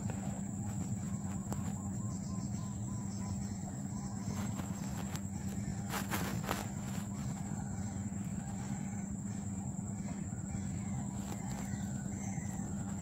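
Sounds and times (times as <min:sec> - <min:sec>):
high-pitched insect trill: 0:00.0 - 0:13.0
low steady hum: 0:00.0 - 0:13.0.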